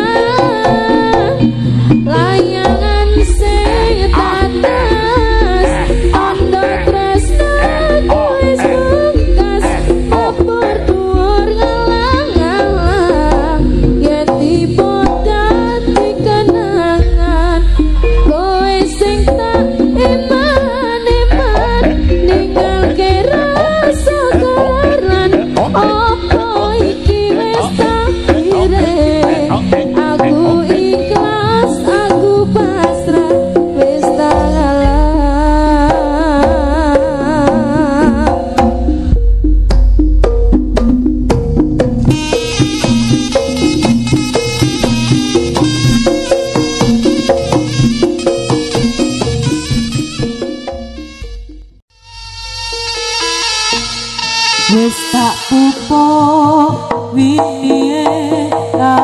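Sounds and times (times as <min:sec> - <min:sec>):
hand drum rhythm: 0:00.0 - 0:51.8, 0:54.7 - 0:59.0
wavering melodic lead: 0:00.0 - 0:56.7
bass line: 0:00.0 - 0:57.3.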